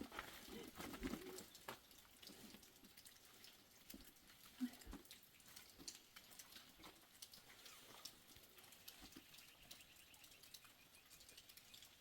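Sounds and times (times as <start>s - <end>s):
faint small ticks and clicks: 0.0s - 12.0s.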